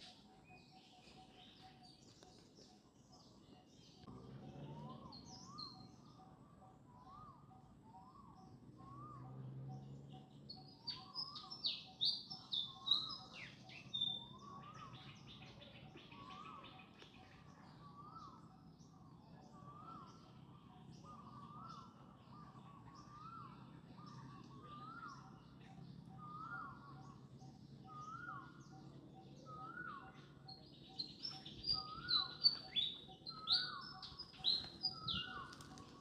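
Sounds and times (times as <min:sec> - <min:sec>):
soft rising and falling bird call: 0:04.0 - 0:36.0.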